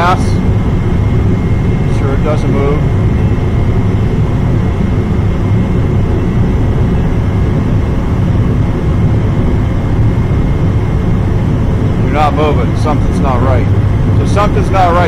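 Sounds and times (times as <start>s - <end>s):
gas burners roaring: 0.0s - 15.0s.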